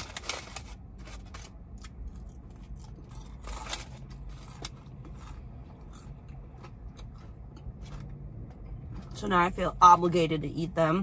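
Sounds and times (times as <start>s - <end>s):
person chewing crispy fries: 0.0s - 9.2s.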